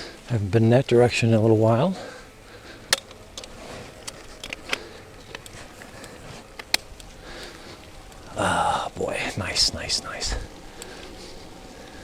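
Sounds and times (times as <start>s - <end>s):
bicycle tyre and wind noise: 0.0s - 12.0s
bike clicking and ticking: 0.0s - 12.0s.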